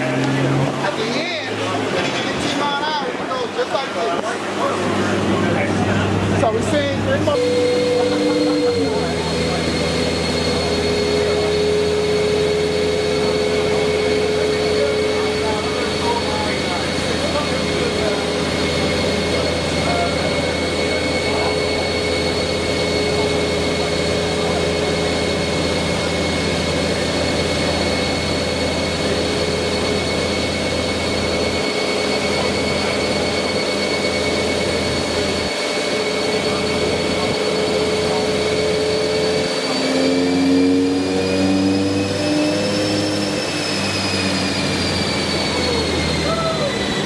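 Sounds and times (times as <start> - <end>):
car engine running: 0.0 - 47.0
high whine: 0.0 - 47.0.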